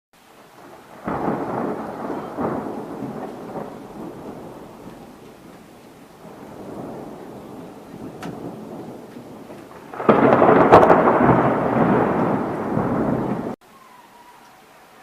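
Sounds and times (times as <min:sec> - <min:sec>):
thunder rumbling: 0:00.2 - 0:13.6
loud thunderclap: 0:00.4 - 0:13.6.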